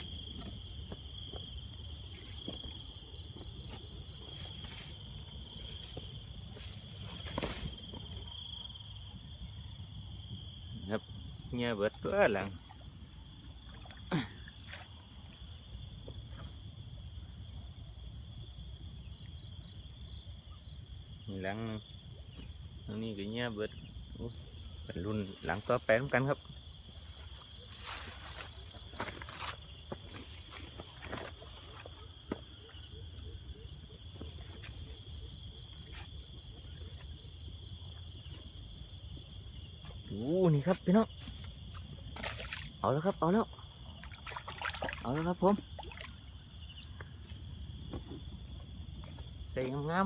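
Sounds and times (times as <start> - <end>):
crickets chirring: 0.0 - 50.0
insects trilling: 0.0 - 50.0.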